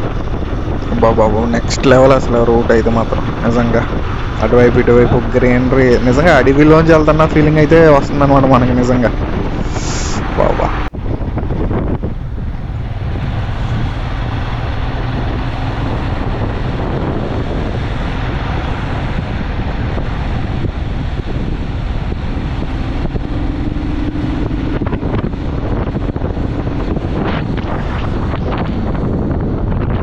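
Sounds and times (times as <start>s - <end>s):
engine hum: 0.0s - 30.0s
road noise: 0.0s - 30.0s
wind buffeting microphone: 0.0s - 30.0s.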